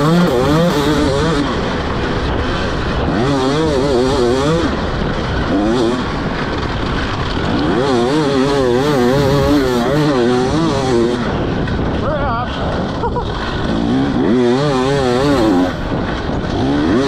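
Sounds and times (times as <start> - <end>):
dirt bike engine warbling: 0.0 - 17.0
steady rushing noise: 0.0 - 17.0.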